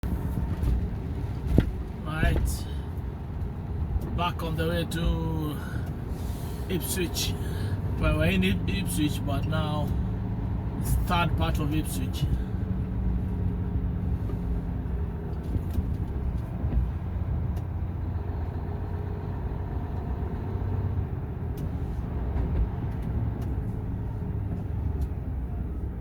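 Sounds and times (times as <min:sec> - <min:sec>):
truck engine droning: 0:00.0 - 0:26.0.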